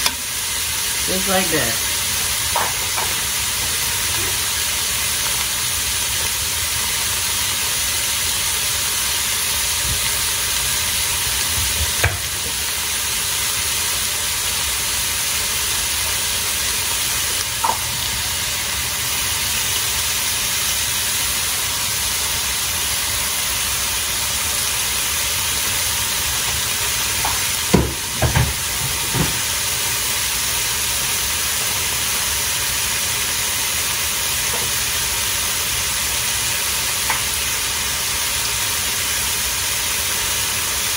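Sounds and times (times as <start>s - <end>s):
food sizzling in a skillet: 0.0s - 40.9s.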